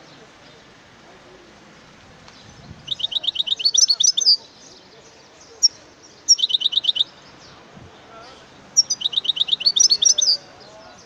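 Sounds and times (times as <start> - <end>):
goldfinch singing: 1.8 - 11.0.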